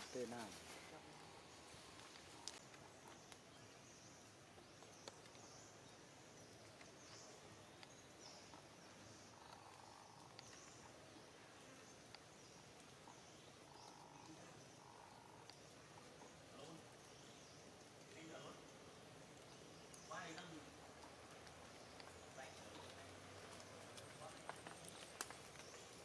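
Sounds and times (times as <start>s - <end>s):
faint clicks: 1.9s - 3.5s, 4.6s - 5.6s, 6.6s - 11.0s, 11.6s - 26.0s.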